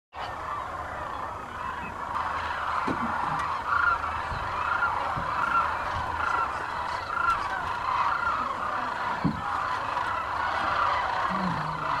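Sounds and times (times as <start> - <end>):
flock of cranes calling: 0.2 - 12.0
single crane calls: 0.2 - 12.0.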